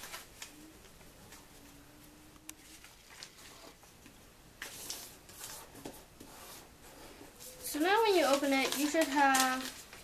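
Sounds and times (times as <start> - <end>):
paper rustling and creasing: 0.0 - 1.7, 2.6 - 10.0.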